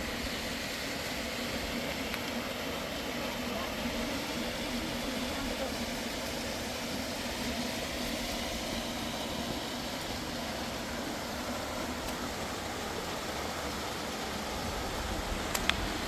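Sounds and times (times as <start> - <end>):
fast river rushing: 0.0 - 16.0.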